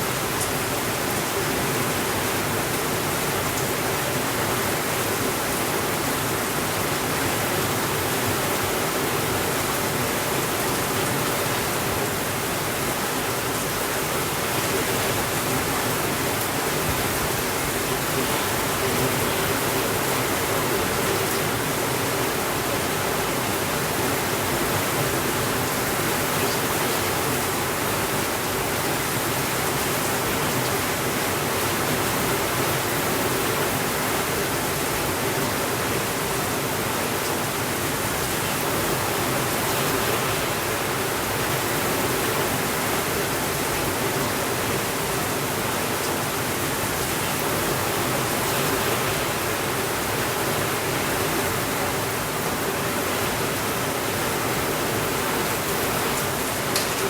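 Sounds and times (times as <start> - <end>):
heavy rain on a window: 0.0 - 57.0.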